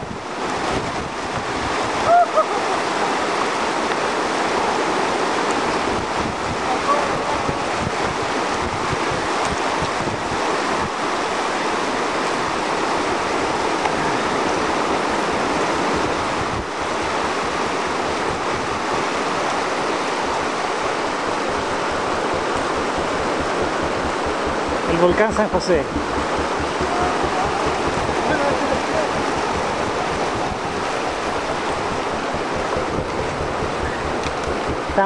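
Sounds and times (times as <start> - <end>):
stream rushing over stones: 0.0 - 35.0
wind buffeting microphone: 0.0 - 35.0.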